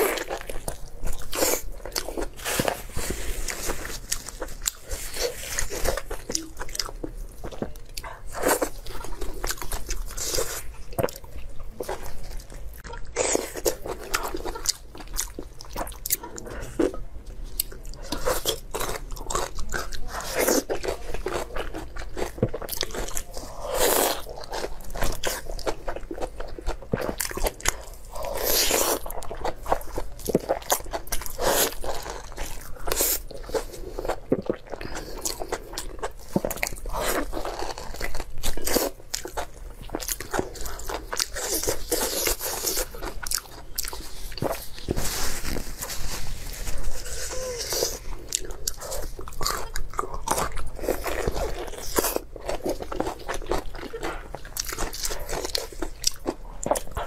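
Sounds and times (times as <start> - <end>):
biting and chewing food: 0.0 - 57.0.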